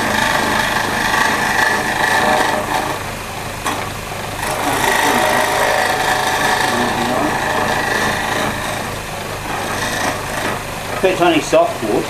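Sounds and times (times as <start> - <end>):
turning tool scraping wood: 0.0 - 12.0
wood lathe whining: 0.0 - 12.0.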